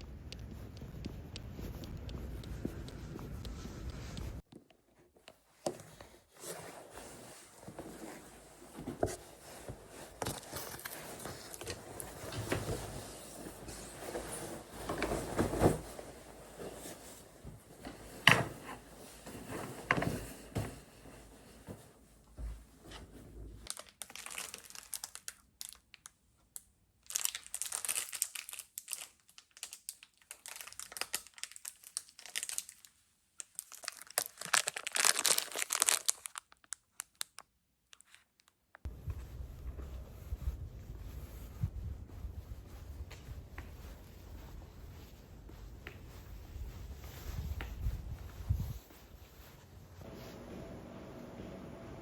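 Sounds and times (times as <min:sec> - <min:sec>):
crinkling and rustling: 0:00.0 - 0:50.4.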